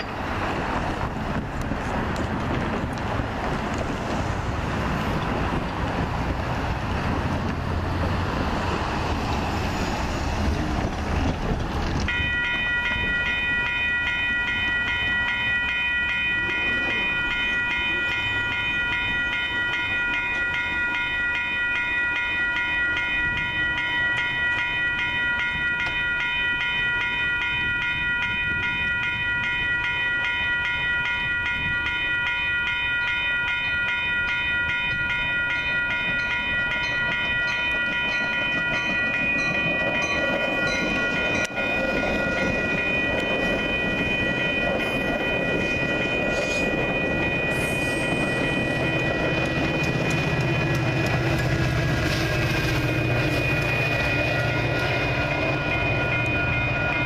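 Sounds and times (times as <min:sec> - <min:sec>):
crossing warning bell ringing: 0:00.0 - 0:01.5, 0:11.5 - 0:57.0
traffic noise: 0:00.0 - 0:57.0
wind: 0:00.0 - 0:57.0.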